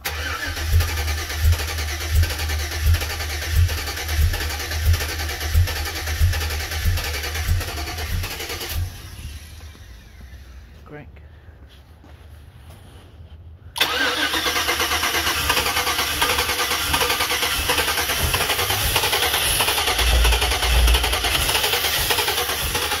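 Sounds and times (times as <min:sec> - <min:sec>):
starter motor cranking engine: 0:00.0 - 0:10.7, 0:13.8 - 0:23.0.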